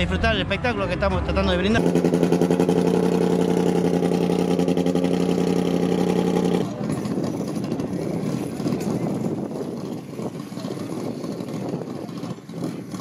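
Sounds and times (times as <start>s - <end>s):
race car engine running roughly: 1.6s - 13.0s.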